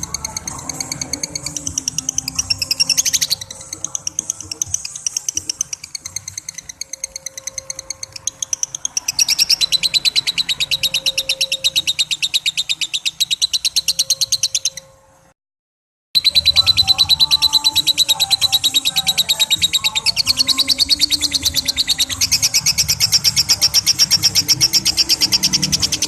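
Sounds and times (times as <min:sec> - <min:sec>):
lovebird chatter: 0:00.0 - 0:14.9, 0:16.2 - 0:26.0.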